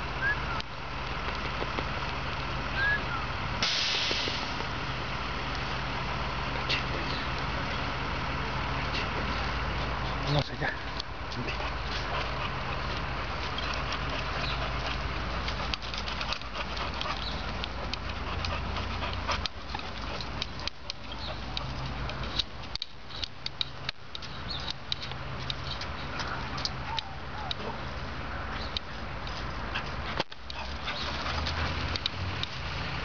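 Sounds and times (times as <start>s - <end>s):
steady low rumble: 0.0s - 33.0s
dogs playing: 4.6s - 33.0s.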